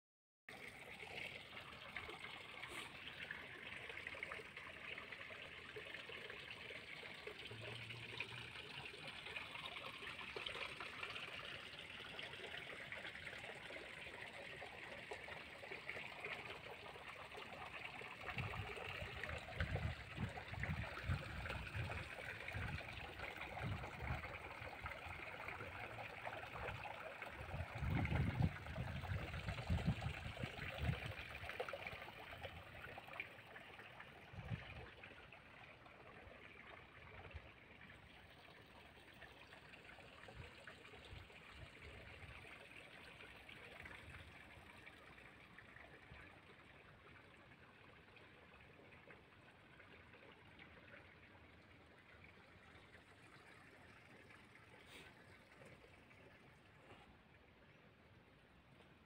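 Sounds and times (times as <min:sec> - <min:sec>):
water pouring into a channel: 0:00.5 - 0:59.0.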